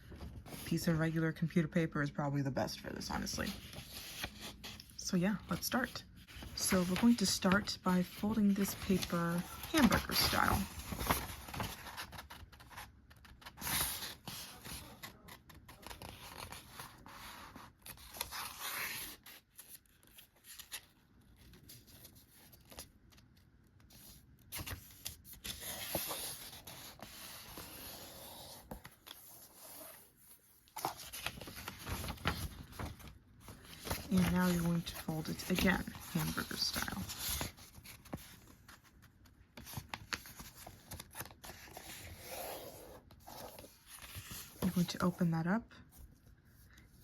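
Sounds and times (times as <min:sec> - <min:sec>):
paper rustling and crinkling: 0:03.2 - 0:45.0.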